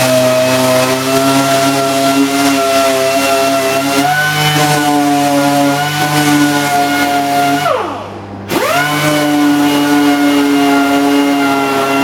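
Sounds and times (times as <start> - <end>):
sander whining on plastic: 0.0 - 12.0.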